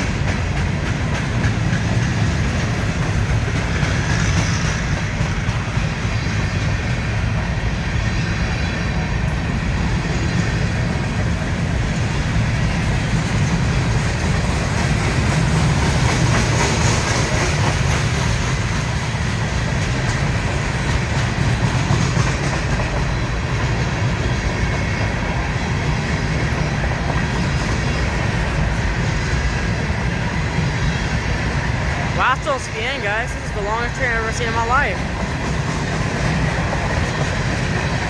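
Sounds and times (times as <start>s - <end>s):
train wheels clattering over rails: 0.0s - 32.5s, 33.6s - 38.0s.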